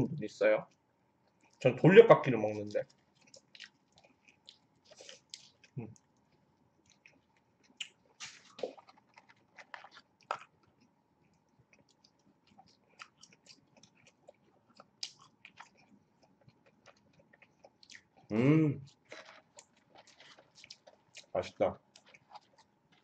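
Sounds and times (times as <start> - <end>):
chewing mouth clicks and smacks: 2.8 - 18.3, 18.9 - 23.0.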